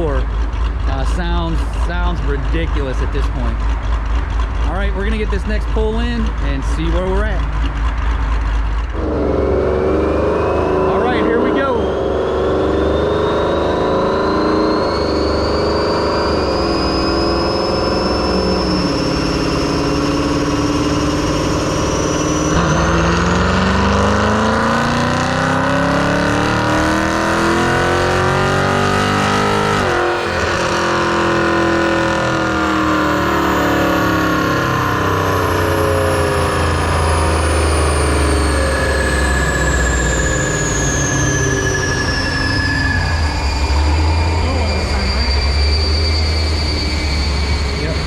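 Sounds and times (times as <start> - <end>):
car engine at full throttle: 0.0 - 48.0
high whine falling in pitch: 8.8 - 48.0.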